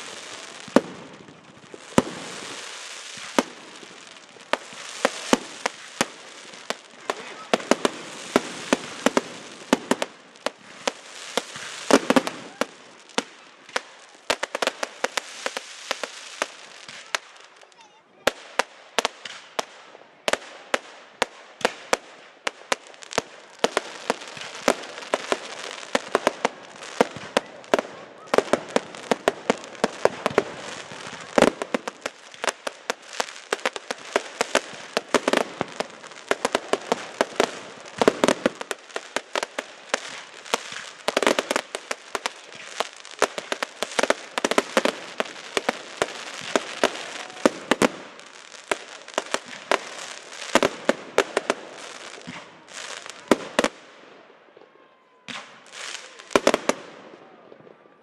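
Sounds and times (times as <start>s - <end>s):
firework bangs: 0.0s - 57.9s
firework crackling: 0.0s - 57.9s.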